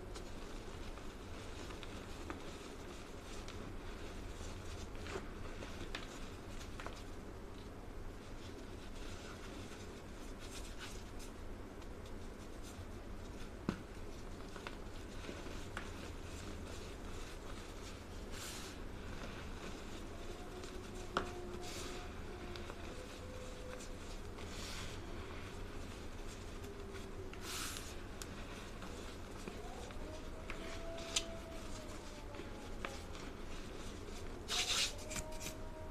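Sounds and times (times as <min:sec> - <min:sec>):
powder crunching and rustling: 0:00.0 - 0:35.9
steady low hum: 0:00.0 - 0:35.9.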